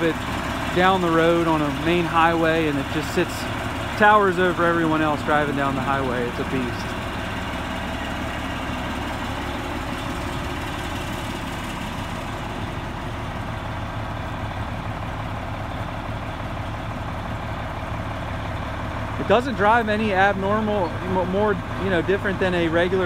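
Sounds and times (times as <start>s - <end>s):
truck diesel engine idling: 0.0s - 23.0s.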